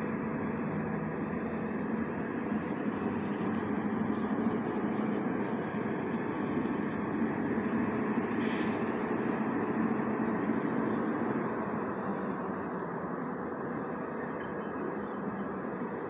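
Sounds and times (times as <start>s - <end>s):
distant vehicle rumble: 0.0s - 16.0s.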